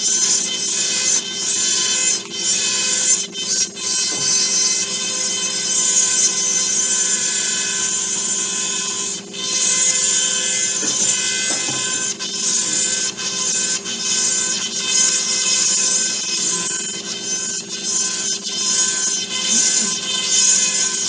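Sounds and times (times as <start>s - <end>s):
dental drill grinding tooth: 0.0s - 21.0s.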